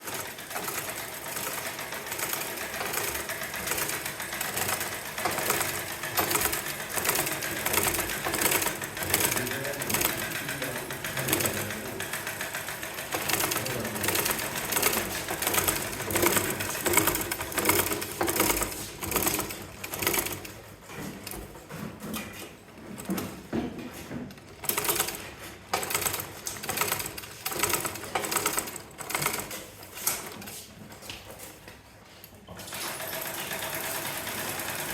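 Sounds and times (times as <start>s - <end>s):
machine clattering: 0.0s - 23.6s, 24.2s - 30.5s.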